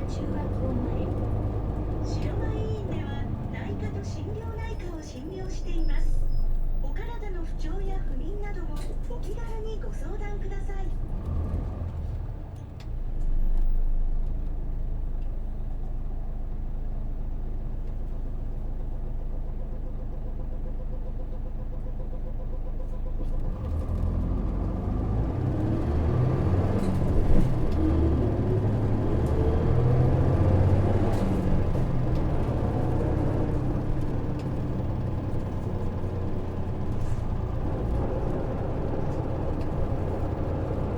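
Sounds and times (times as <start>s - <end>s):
bus diesel engine accelerating: 0.0s - 40.9s.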